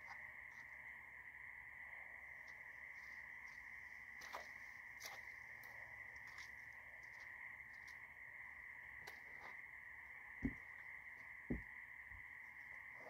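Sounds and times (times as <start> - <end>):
frogs chorus: 0.0 - 13.0.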